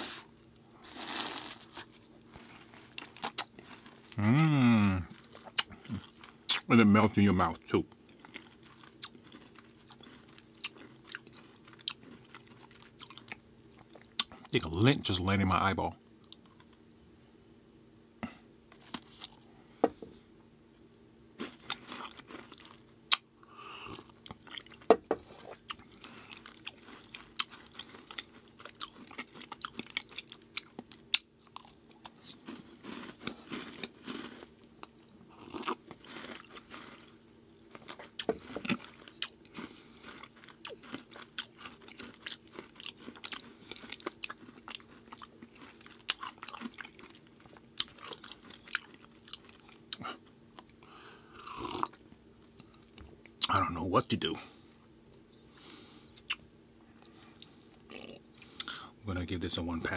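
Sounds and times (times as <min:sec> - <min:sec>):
faint steady hum: 0:00.0 - 0:59.9
crunching of crisp cookies: 0:00.5 - 0:16.8, 0:18.7 - 0:19.6, 0:21.4 - 0:54.8.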